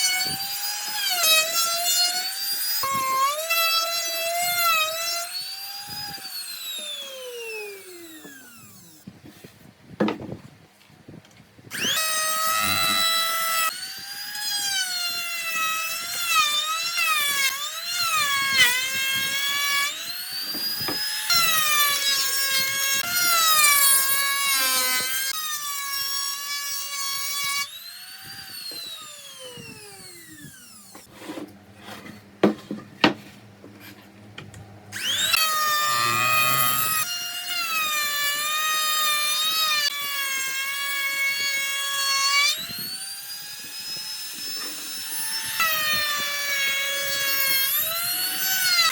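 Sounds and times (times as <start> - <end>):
power tool motor whining: 0.0 - 9.1, 11.7 - 31.1, 34.5 - 48.9.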